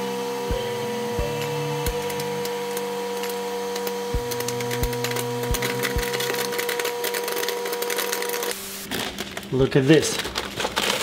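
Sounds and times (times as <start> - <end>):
microwave oven humming: 0.0 - 8.8
popcorn kernels popping: 1.3 - 11.0.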